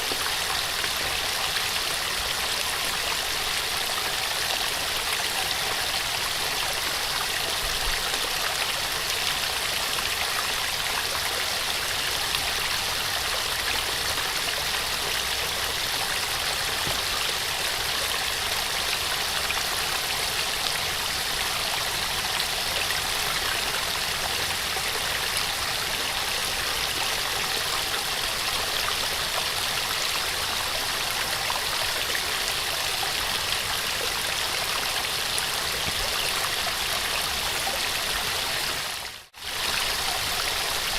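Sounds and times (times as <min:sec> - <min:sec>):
small waterfall splashing: 0:00.0 - 0:40.9.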